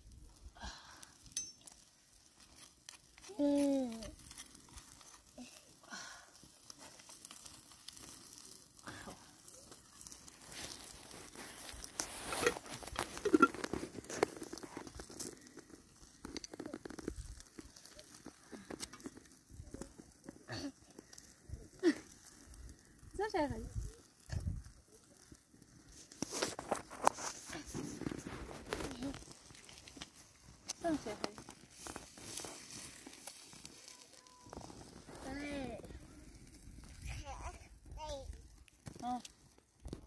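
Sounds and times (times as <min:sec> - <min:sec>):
rustling and crinkling: 0:00.0 - 0:40.0.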